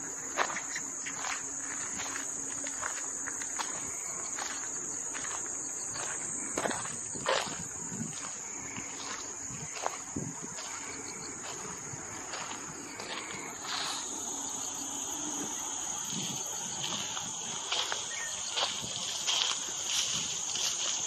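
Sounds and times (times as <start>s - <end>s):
insects chirring: 0.0s - 21.0s
footsteps: 0.4s - 21.0s.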